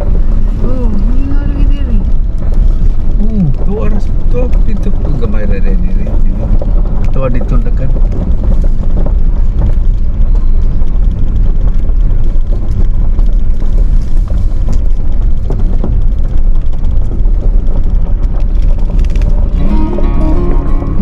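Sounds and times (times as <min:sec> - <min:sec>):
car road and engine rumble: 0:00.0 - 0:21.0
clicks and crackles: 0:00.0 - 0:21.0.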